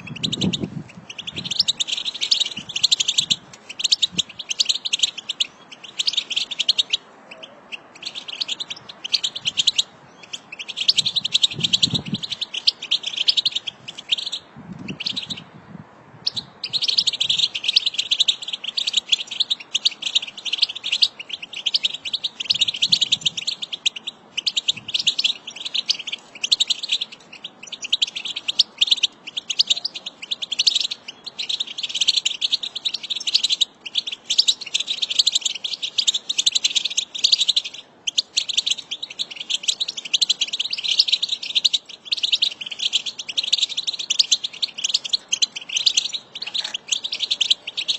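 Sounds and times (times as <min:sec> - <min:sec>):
goldfinches twittering: 0:00.0 - 0:15.5, 0:16.2 - 0:47.9.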